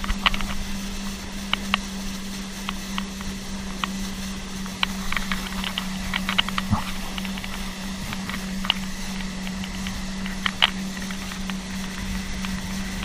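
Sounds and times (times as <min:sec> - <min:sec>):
jet ski engine humming: 0:00.0 - 0:13.0
sharp ticks: 0:01.4 - 0:13.0.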